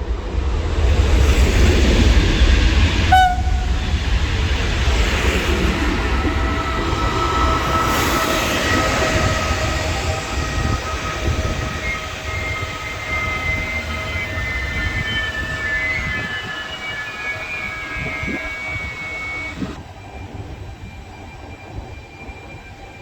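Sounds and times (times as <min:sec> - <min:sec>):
train rumbling: 0:00.0 - 0:23.0
wheels and brakes squealing: 0:02.0 - 0:23.0.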